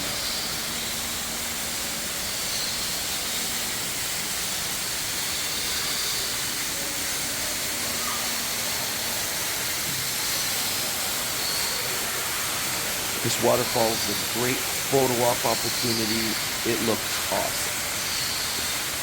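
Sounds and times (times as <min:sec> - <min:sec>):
indoor waterfall splashing: 0:00.0 - 0:19.0.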